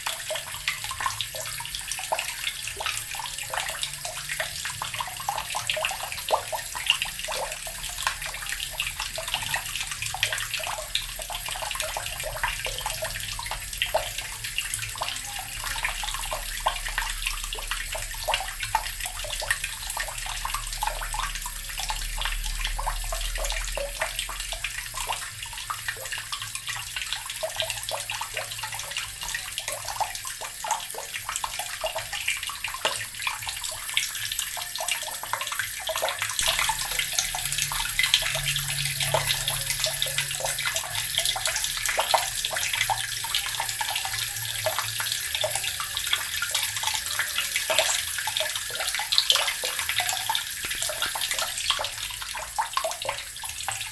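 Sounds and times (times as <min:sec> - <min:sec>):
tap water splashing into basin: 0:00.0 - 0:53.9.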